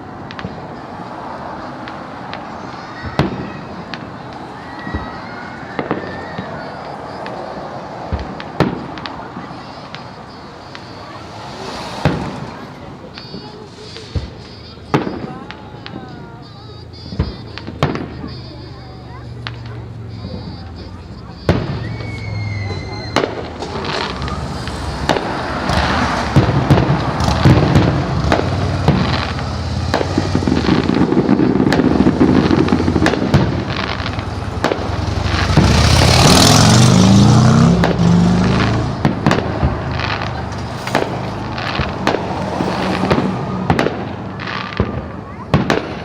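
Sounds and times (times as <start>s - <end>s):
fireworks booming and crackling: 0.0s - 46.0s.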